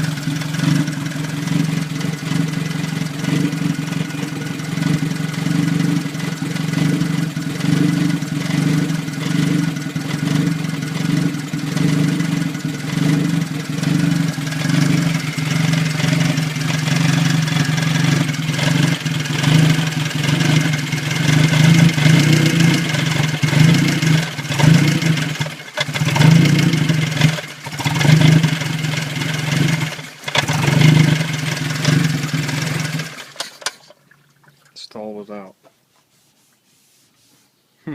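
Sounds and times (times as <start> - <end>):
car engine idling roughly: 0.0 - 34.0.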